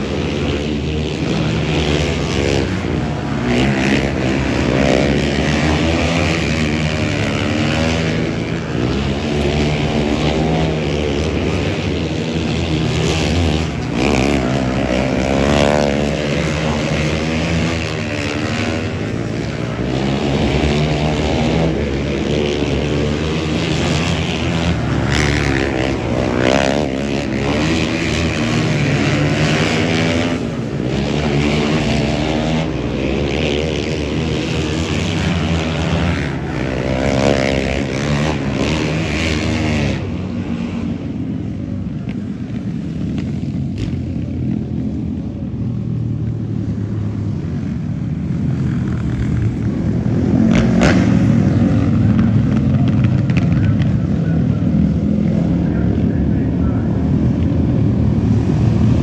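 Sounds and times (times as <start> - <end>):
engines revving: 0.0 - 59.0.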